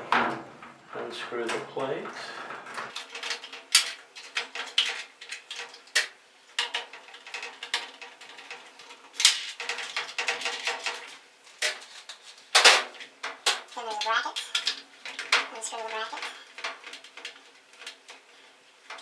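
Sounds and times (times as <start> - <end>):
metal plate clattering: 2.8 - 19.0.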